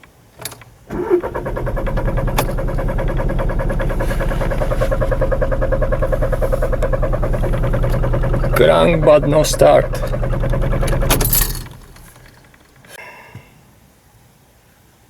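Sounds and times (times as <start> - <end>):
diesel engine cranking on starter: 0.4 - 13.0.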